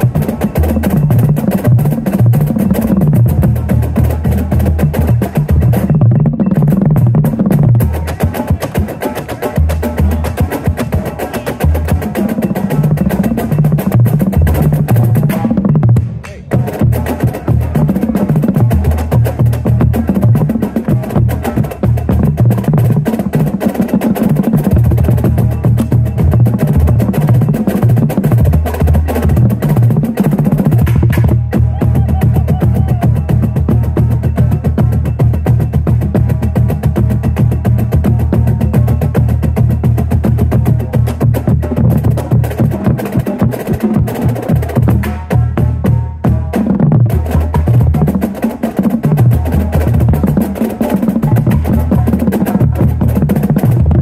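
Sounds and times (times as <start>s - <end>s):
bass drums playing rapid strokes: 0.0s - 54.0s.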